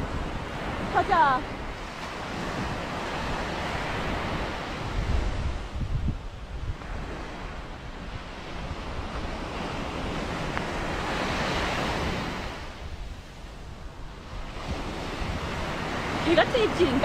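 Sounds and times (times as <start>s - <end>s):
sea waves breaking on beach: 0.0s - 17.0s
wind rumbling on microphone: 0.0s - 17.0s.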